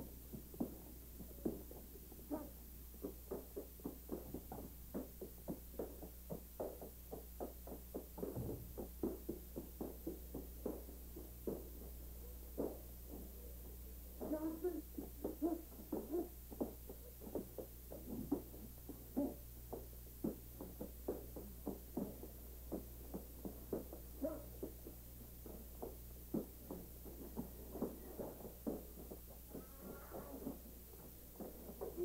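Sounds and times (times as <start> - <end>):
shuffling feet: 0.0 - 32.0.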